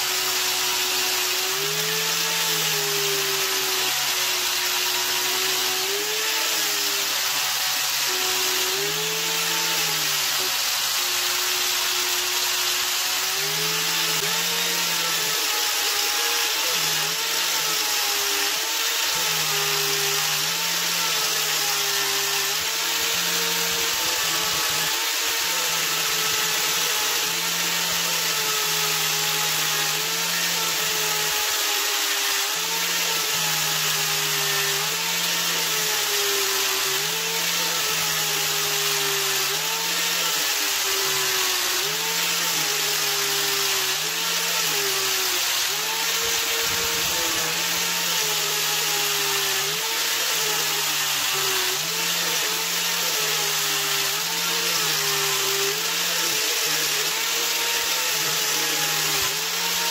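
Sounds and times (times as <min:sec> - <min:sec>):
angle grinder motor whine: 0:00.0 - 0:59.9.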